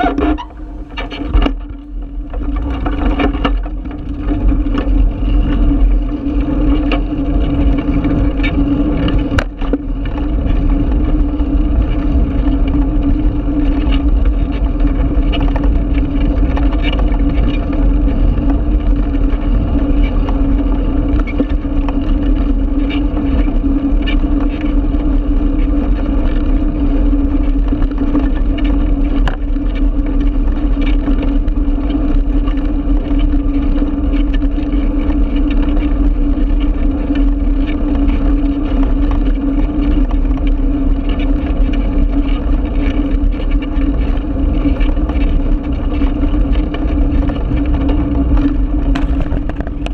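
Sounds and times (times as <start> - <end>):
bicycle rolling over brick paving: 0.0 - 49.9
constant low hum: 0.0 - 49.9.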